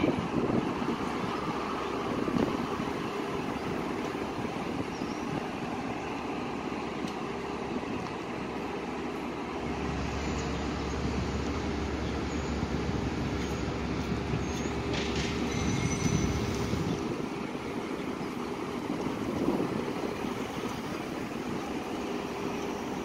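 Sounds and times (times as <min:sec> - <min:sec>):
large vehicle rumble: 0:00.0 - 0:23.0.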